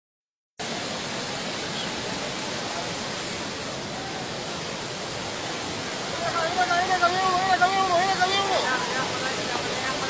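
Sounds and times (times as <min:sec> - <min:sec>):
floodwater rushing: 0:00.6 - 0:10.0.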